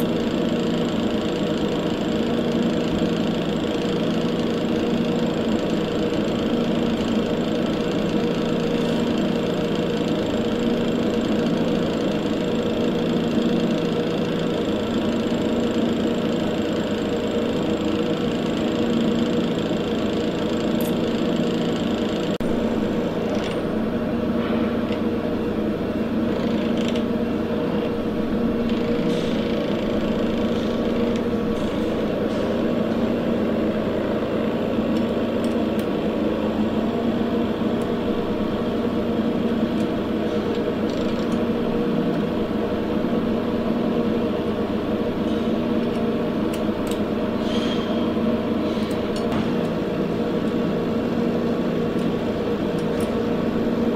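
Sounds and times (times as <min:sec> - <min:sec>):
machine hum: 0:00.0 - 0:53.9.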